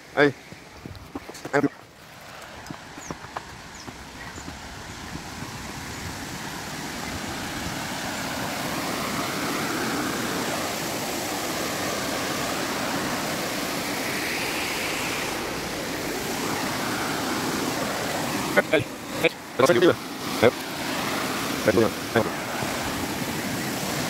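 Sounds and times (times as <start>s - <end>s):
river water rushing over rocks: 1.9s - 24.0s.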